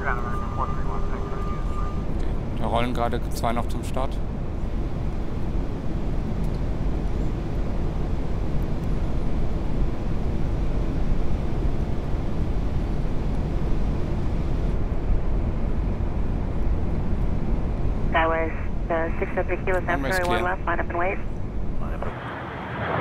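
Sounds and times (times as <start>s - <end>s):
airflow and jet engines rushing: 0.0s - 23.0s.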